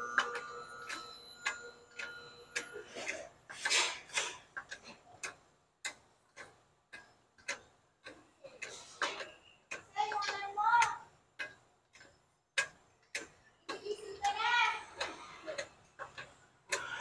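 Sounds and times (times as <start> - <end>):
hand pump clacking: 0.0 - 17.0.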